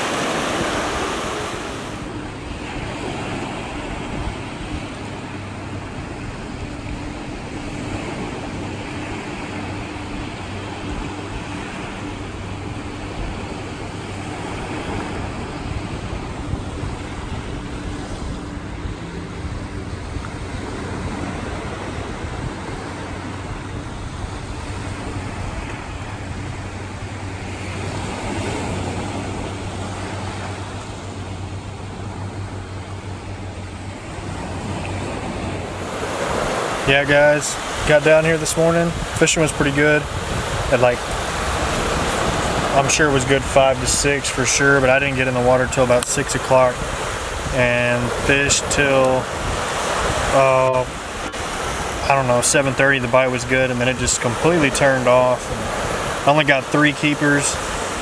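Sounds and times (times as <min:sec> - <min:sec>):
faint low engine hum: 0:00.0 - 0:58.0
waves breaking on a beach: 0:00.0 - 0:58.0.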